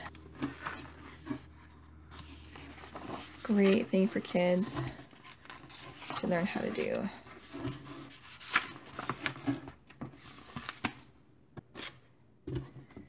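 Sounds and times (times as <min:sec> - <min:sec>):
book pages turning: 0:00.0 - 0:12.7
paper rustling: 0:00.3 - 0:11.1.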